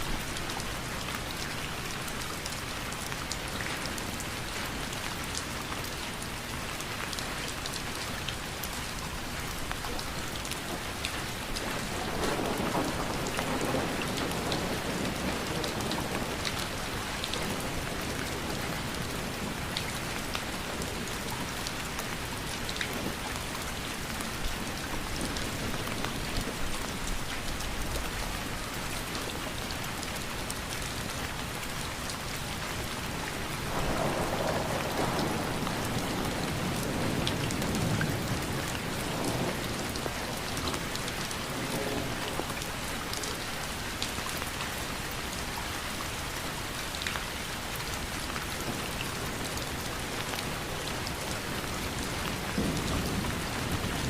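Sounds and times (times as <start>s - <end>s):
steady rain falling: 0.0s - 54.0s
raindrops ticking on a surface: 0.1s - 54.0s.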